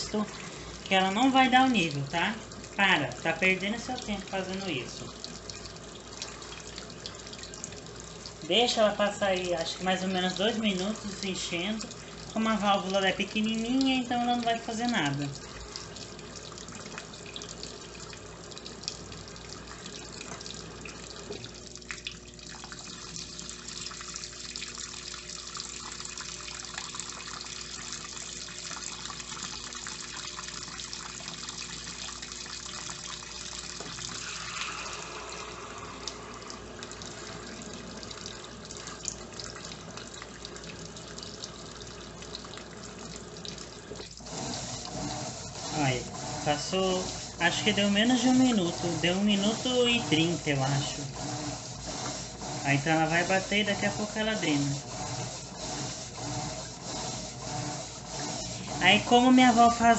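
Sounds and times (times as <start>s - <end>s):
water running and splashing: 0.0s - 59.9s.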